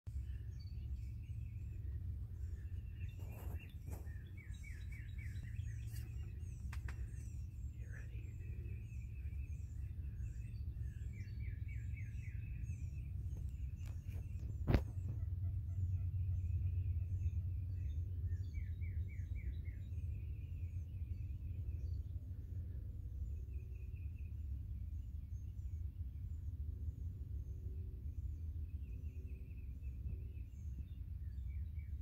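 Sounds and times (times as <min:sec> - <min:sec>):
songbirds singing: 0:00.1 - 0:32.0
steady low rumble: 0:00.1 - 0:32.0.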